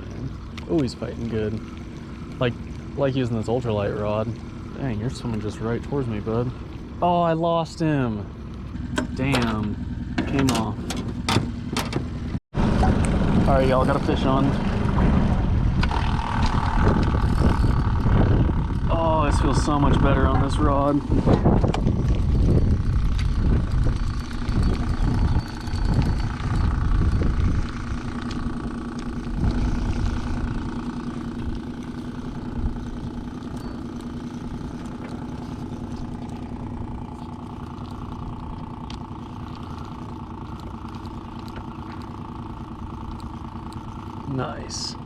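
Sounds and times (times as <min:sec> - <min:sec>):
boat motor humming: 0:00.0 - 0:45.0
heavy uneven low rumble: 0:00.0 - 0:45.0.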